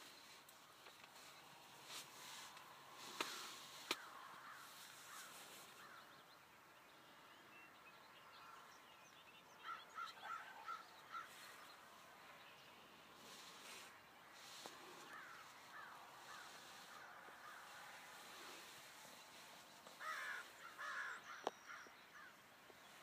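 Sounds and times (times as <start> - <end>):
faint bird chirps: 2.3 - 23.0.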